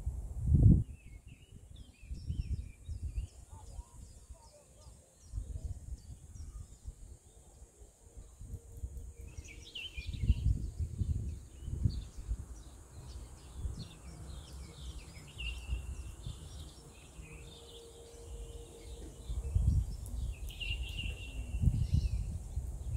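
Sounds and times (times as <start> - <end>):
wind buffeting microphone: 0.0 - 22.9
songbirds chirping: 0.7 - 22.9.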